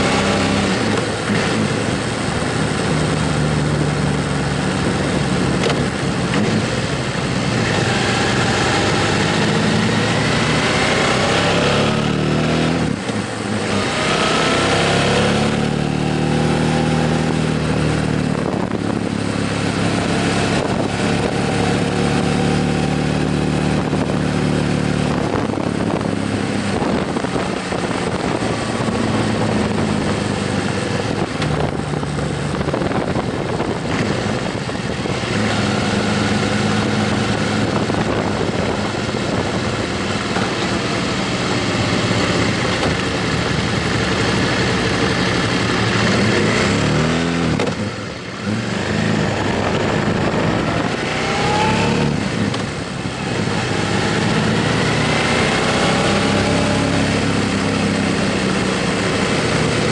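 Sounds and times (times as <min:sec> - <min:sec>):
heavy wind noise: 0:00.0 - 0:59.9
motorcycle engine running: 0:00.0 - 0:59.9.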